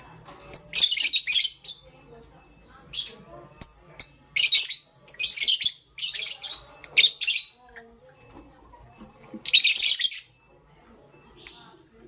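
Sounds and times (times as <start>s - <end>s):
lovebird chirping: 0.0s - 12.0s.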